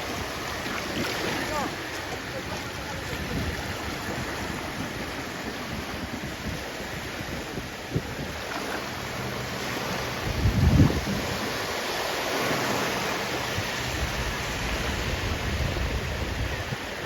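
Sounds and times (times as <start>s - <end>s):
sea waves washing onto shore: 0.0s - 17.0s
wind buffeting microphone: 0.0s - 17.0s.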